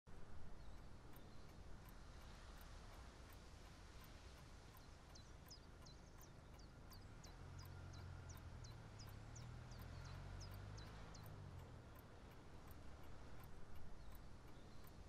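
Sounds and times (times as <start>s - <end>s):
small bird chirping: 0.6s - 2.7s, 4.7s - 15.0s.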